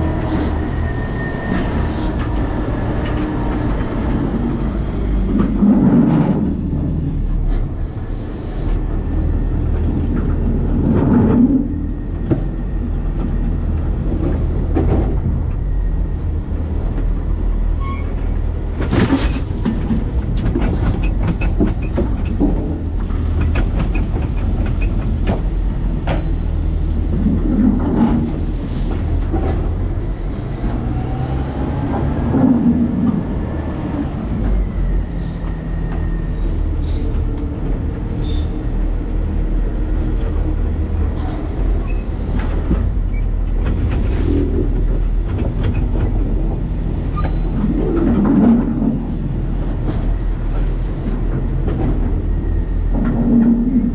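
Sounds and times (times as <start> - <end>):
garbage truck rumble: 0.0 - 53.9.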